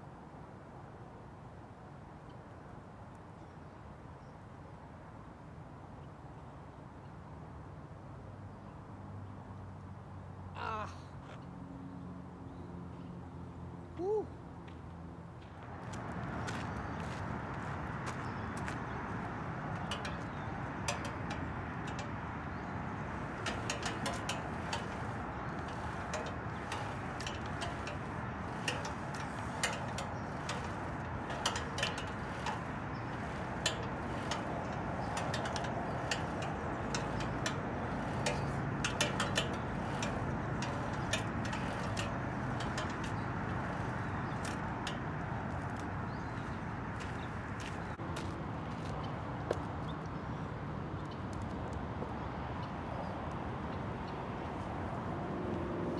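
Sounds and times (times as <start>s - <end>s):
outdoor background noise: 0.0s - 55.9s.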